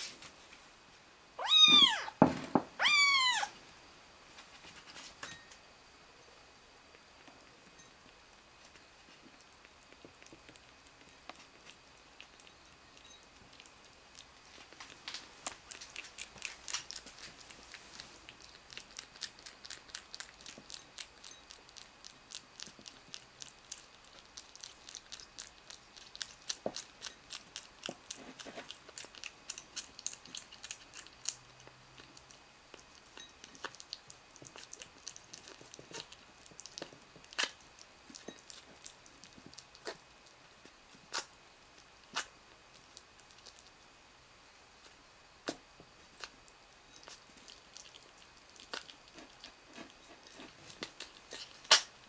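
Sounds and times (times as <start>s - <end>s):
kitten chewing food: 6.3s - 52.0s.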